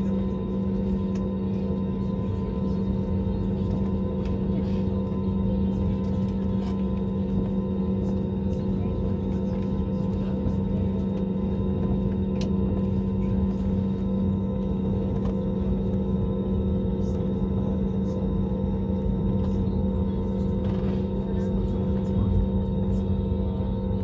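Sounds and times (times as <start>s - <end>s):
aircraft cabin engine hum: 0.0s - 24.0s.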